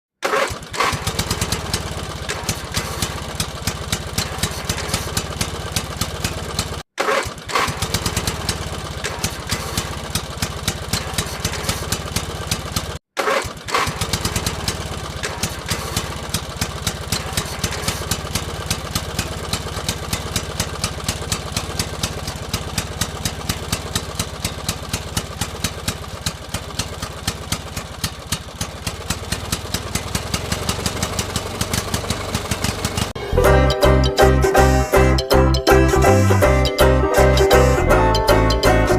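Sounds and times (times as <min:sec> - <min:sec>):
small engine knocking: 0:00.2 - 0:33.2.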